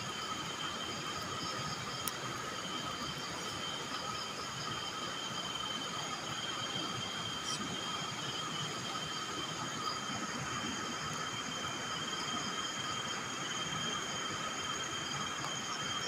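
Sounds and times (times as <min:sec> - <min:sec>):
night insects trilling: 0:00.0 - 0:16.0.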